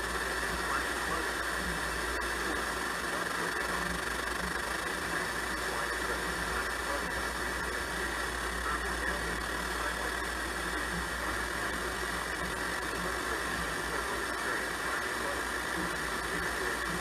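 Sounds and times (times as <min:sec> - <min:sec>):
low hum: 0:00.0 - 0:17.0
radio static hiss: 0:00.0 - 0:17.0.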